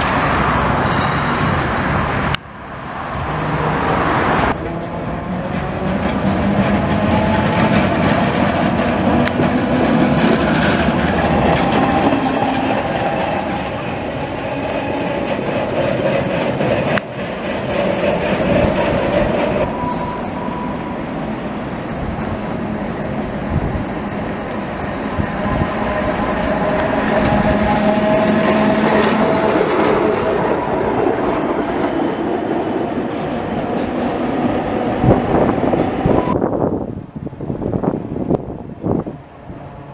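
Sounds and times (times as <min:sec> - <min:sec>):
tram wheels rumbling on rails: 0:00.0 - 0:39.9.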